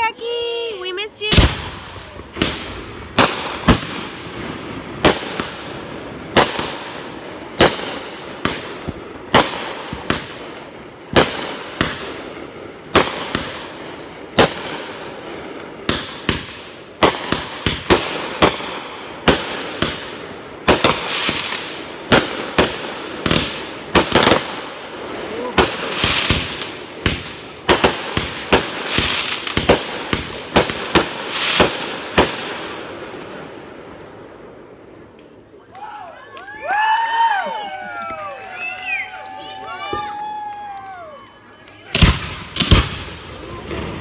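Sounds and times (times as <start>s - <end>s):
fireworks bursting with sharp bangs: 0.0s - 44.0s
fireworks crackle: 0.0s - 44.0s.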